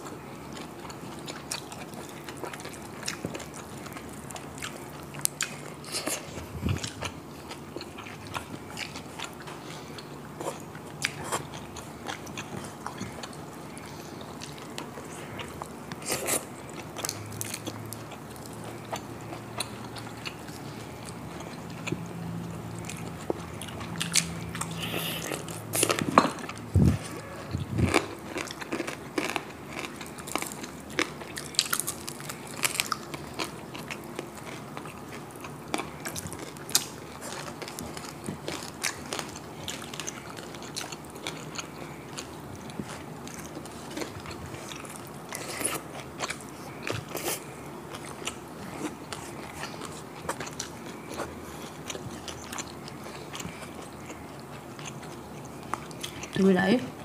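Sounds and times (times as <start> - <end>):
chewing and crunching: 0.0 - 57.0.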